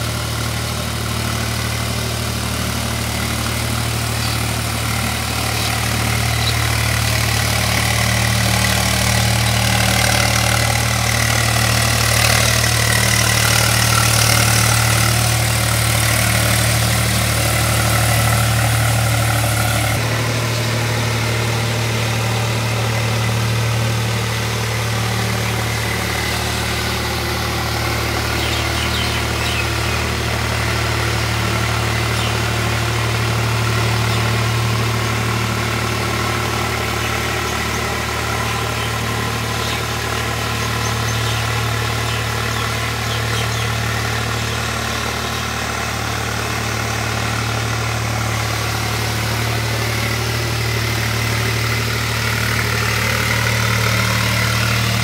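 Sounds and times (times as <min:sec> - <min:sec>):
tractor diesel engine: 0:00.0 - 0:55.0.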